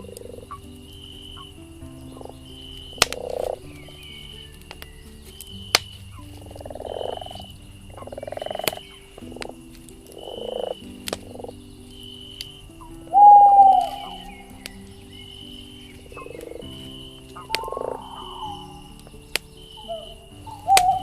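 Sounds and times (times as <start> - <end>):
campfire crackling: 0.0 - 21.0
frogs croaking: 0.0 - 21.0.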